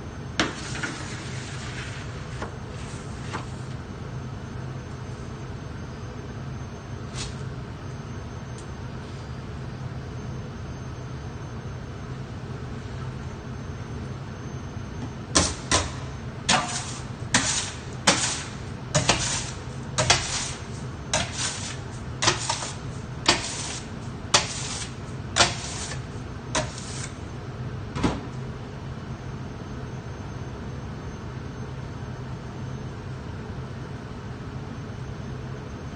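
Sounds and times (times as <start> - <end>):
oven gas burner hum: 0.0 - 35.9.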